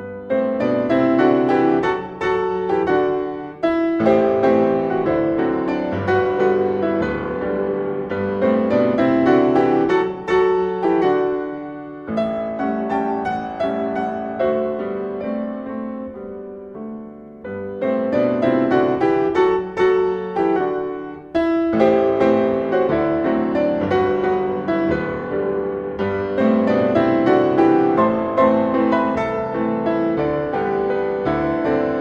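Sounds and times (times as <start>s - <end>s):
solo piano playing: 0.0s - 32.0s.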